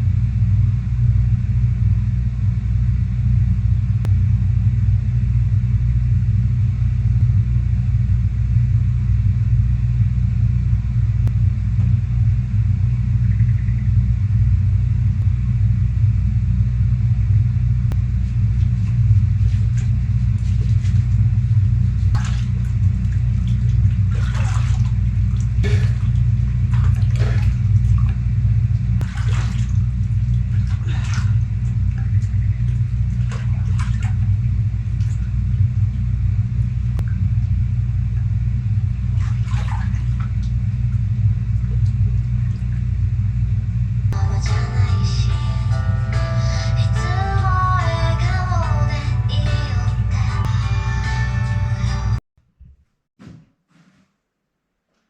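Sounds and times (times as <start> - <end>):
steady low rumble: 0.0 - 52.2.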